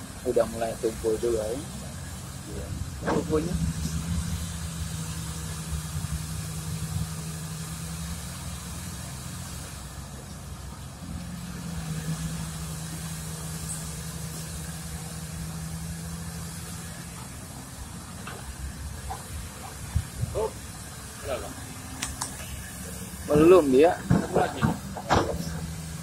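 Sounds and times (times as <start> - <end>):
heavy diesel engines humming: 0.0 - 26.0.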